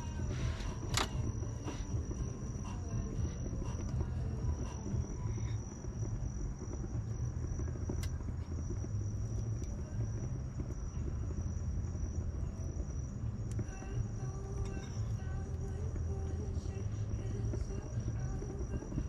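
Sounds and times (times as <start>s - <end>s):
bonfire crackling and popping: 0.0s - 19.0s
cricket-like trill: 0.0s - 19.0s
low fire rumble: 0.0s - 19.0s.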